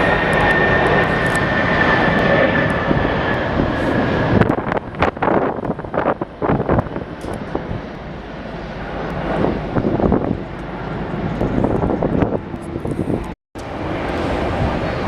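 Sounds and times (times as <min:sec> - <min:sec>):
wind buffeting on microphone: 0:00.0 - 0:08.3, 0:09.0 - 0:15.0
jet airliner engine noise: 0:00.0 - 0:15.0.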